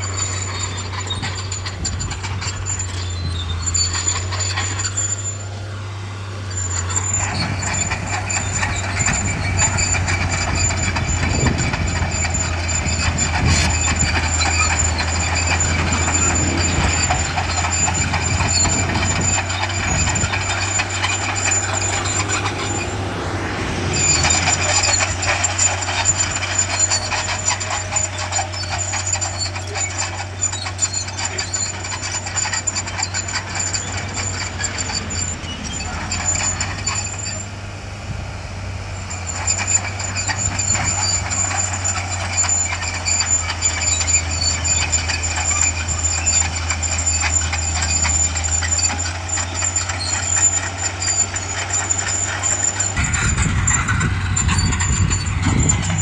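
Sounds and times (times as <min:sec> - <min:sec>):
bulldozer diesel engine: 0:00.0 - 0:56.0
rattle and clank: 0:00.0 - 0:56.0.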